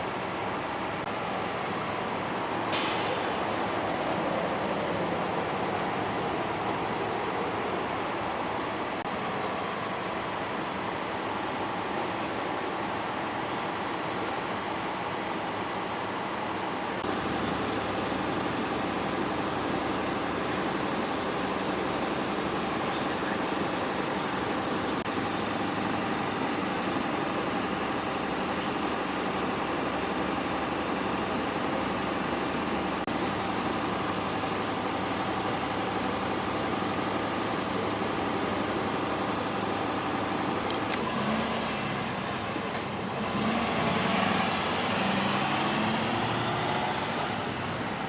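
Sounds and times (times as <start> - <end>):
vehicle engine hum: 0.0 - 48.0.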